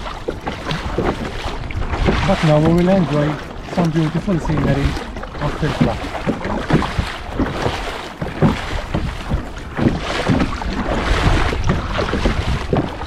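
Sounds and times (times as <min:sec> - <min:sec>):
waves splashing against kayak hull: 0:00.0 - 0:13.0
wind buffeting microphone: 0:00.0 - 0:13.0.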